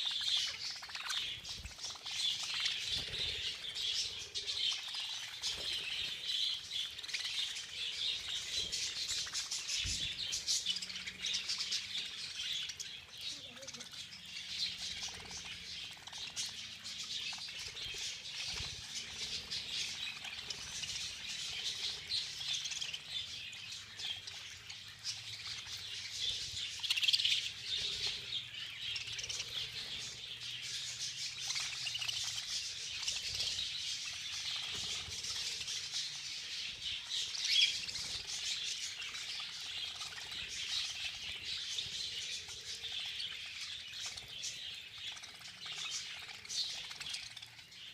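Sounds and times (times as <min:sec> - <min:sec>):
budgerigars chattering: 0:00.0 - 0:47.9.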